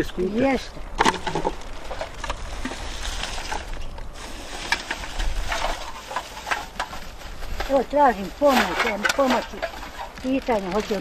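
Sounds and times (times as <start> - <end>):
plastic bags crinkling: 1.0 - 11.0
small clicks and crackles: 1.0 - 11.0.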